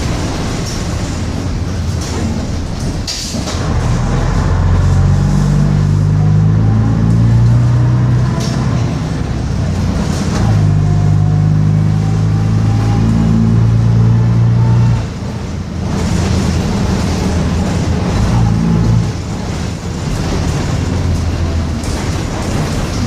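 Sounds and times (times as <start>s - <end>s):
bus diesel engine pulling: 0.0s - 23.0s.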